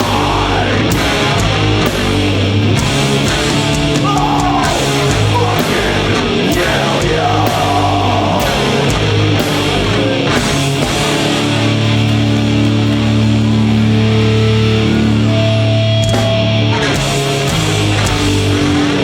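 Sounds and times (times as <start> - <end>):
heavy metal band playing: 0.0 - 19.0
sliding guitar lead line: 0.0 - 19.0.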